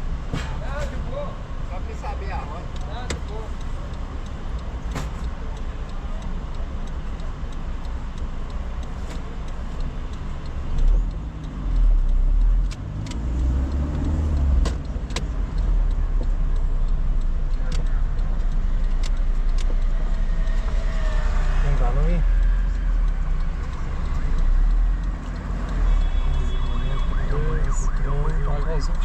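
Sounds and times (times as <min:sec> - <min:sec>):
car engine and road rumble: 0:00.0 - 0:29.0
sharp ticks: 0:00.0 - 0:29.0.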